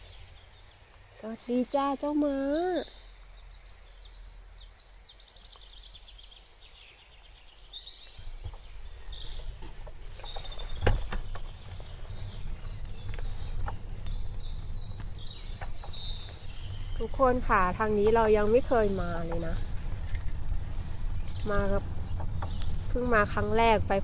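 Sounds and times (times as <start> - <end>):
bicycle riding: 0.0 - 24.0
songbirds singing trills: 0.0 - 24.0
wind rumble: 0.0 - 24.0.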